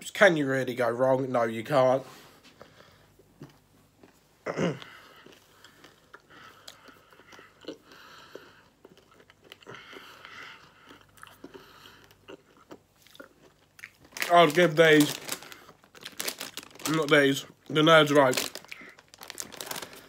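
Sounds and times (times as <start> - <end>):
person chewing candy: 3.0 - 20.0.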